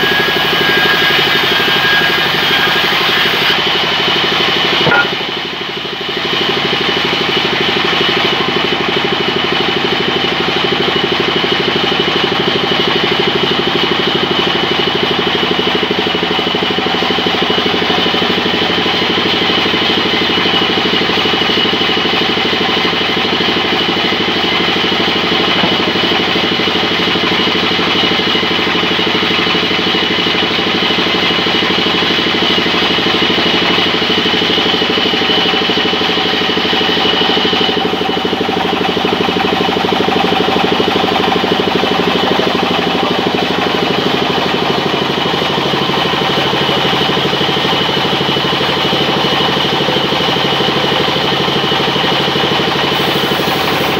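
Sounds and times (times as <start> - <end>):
band saw droning: 0.0 - 53.9.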